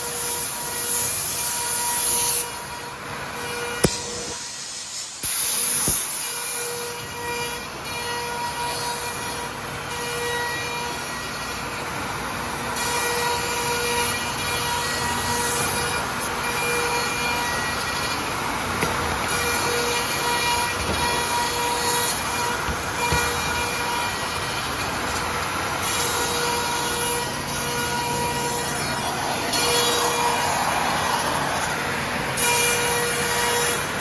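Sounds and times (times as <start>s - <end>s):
cnc router cutting board: 0.0s - 34.0s.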